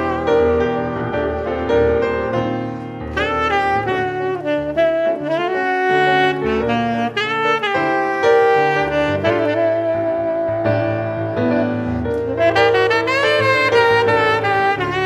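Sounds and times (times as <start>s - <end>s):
jazz saxophone melody: 0.0s - 15.0s.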